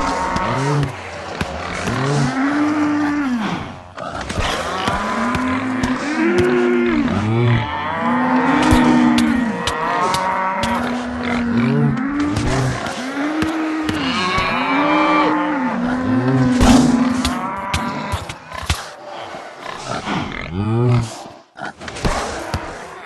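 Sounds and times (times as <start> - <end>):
stomach growling groans: 0.0 - 23.0.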